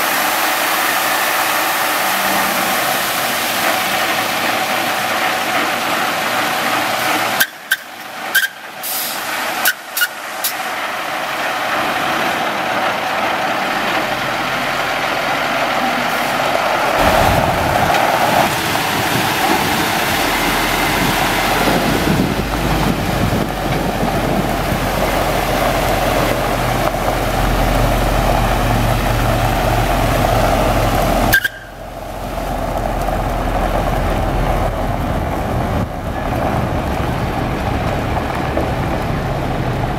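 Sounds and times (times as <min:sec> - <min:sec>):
diesel truck engine running: 0:00.0 - 0:39.9
water spraying onto gravel: 0:00.0 - 0:39.9.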